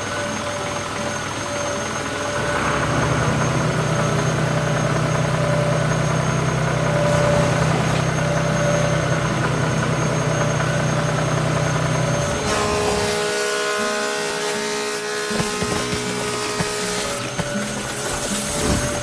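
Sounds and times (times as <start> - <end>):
heavy diesel engine humming: 0.0 - 19.0.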